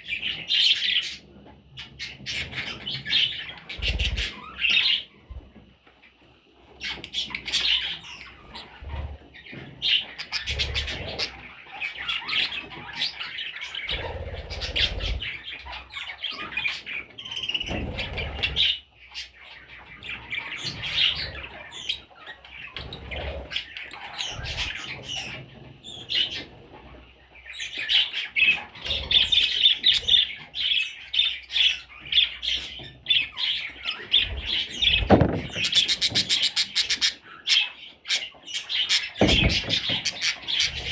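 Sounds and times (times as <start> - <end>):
budgerigar chicks chirping: 0.0 - 5.4, 6.1 - 40.9.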